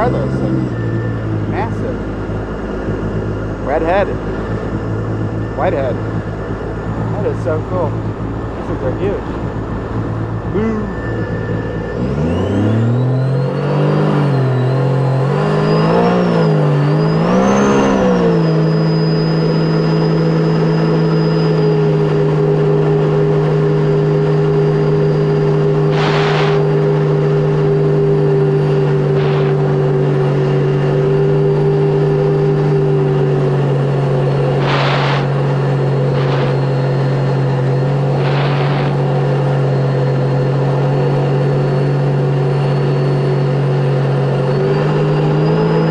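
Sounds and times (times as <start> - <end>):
jet ski engine revving: 0.0 - 45.9.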